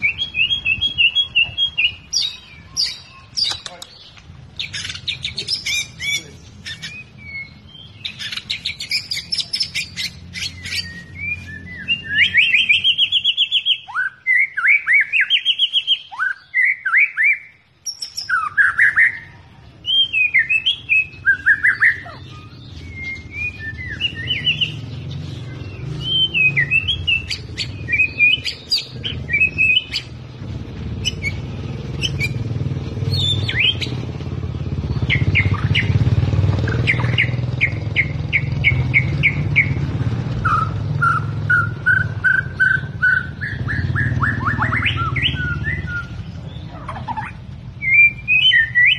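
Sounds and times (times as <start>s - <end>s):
bird singing varied song: 0.0s - 48.9s.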